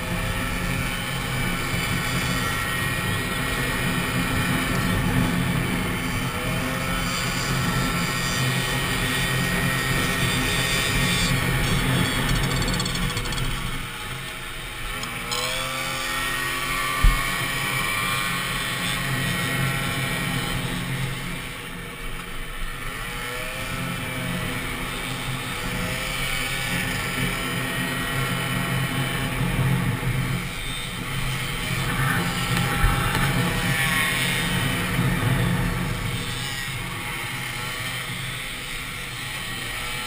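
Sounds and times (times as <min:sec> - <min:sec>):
moped engine running hard: 0:00.0 - 0:40.0.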